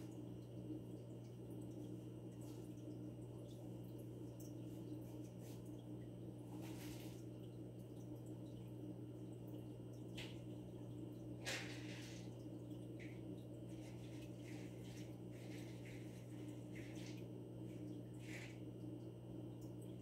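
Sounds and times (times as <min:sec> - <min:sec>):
aquarium pump humming: 0:00.0 - 0:20.0
water trickling: 0:00.0 - 0:20.0.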